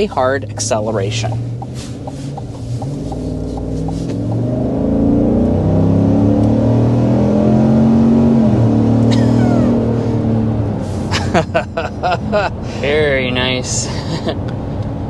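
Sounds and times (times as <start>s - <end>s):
engine accelerating: 0.0s - 13.8s.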